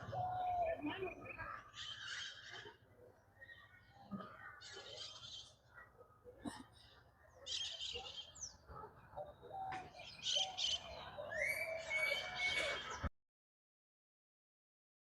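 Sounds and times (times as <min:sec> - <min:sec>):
birds chirping: 0:00.0 - 0:13.1
faint outdoor background: 0:00.0 - 0:13.2.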